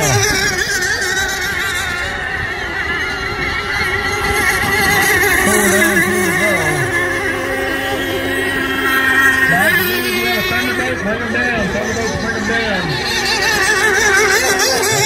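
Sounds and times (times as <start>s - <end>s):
boat passing close: 0.0s - 15.0s
racing boat engines whining: 0.0s - 15.0s.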